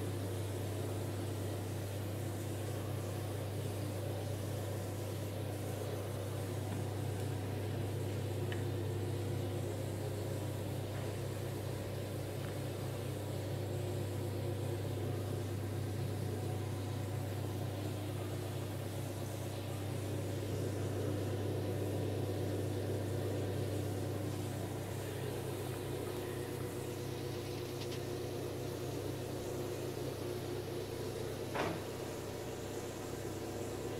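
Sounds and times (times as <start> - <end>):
aquarium pump humming: 0.0 - 33.9.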